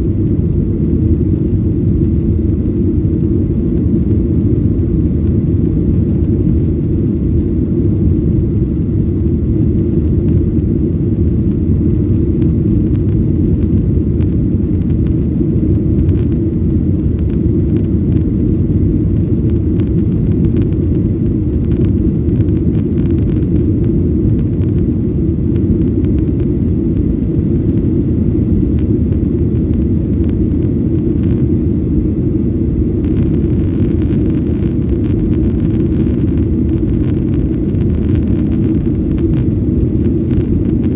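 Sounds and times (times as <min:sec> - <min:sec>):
airplane cabin low rumble: 0:00.0 - 0:40.9.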